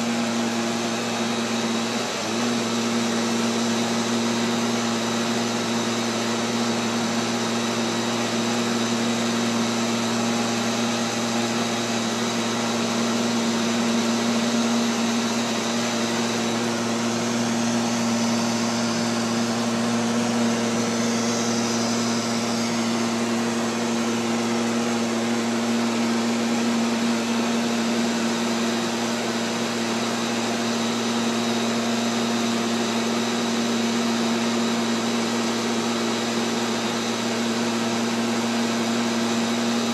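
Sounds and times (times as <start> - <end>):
robotic vacuum cleaner running: 0.0 - 39.9.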